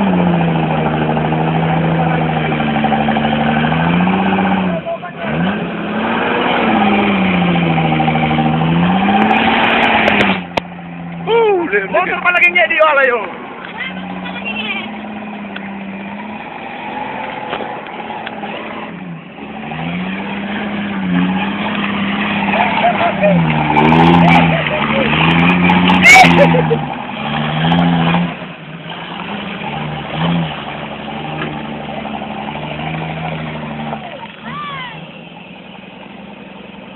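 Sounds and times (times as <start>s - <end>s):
jeep engine revving: 0.0s - 36.9s.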